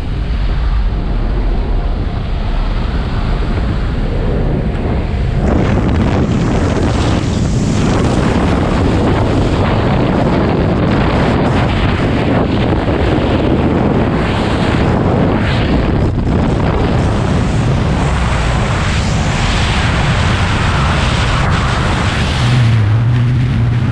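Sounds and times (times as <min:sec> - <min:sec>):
air rushing through open door: 0:00.0 - 0:23.0
plane engines droning: 0:00.0 - 0:23.9
wind buffeting microphone: 0:00.0 - 0:23.9.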